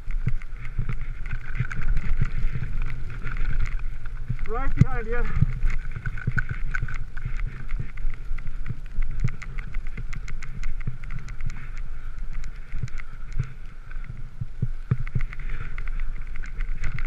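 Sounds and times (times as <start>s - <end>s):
skis scraping over snow: 0.0s - 17.0s
small clicks: 0.0s - 17.0s
wind rumble on microphone: 0.0s - 17.0s.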